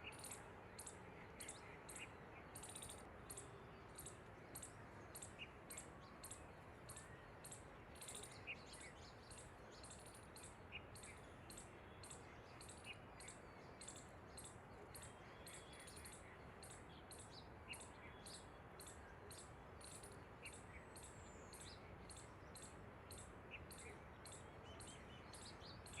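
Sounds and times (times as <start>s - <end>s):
high-pitched ticking bird call: 0.0s - 26.0s.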